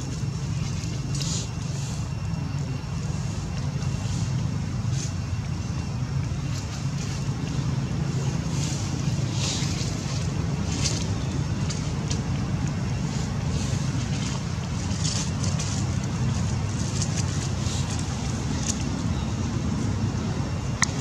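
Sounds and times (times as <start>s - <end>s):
low outdoor rumble: 0.0s - 21.0s
soft ticks and rustles: 0.0s - 21.0s.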